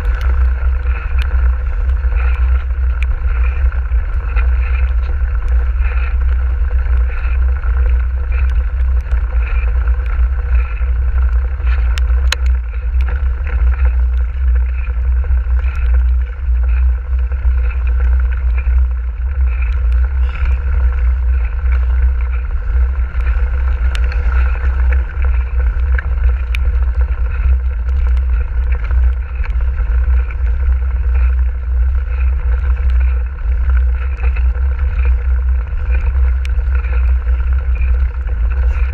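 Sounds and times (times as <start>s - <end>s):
tyre and wind rumble: 0.0s - 38.9s.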